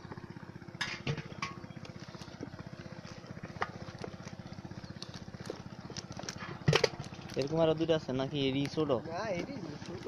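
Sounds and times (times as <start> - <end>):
water pump engine running: 0.0 - 10.0.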